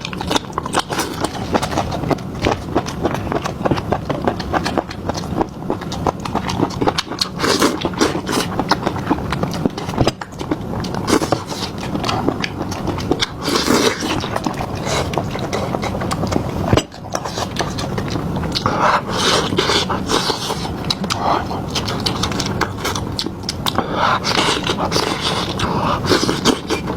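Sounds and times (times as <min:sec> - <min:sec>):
person chewing crunchy food: 0:00.0 - 0:26.9.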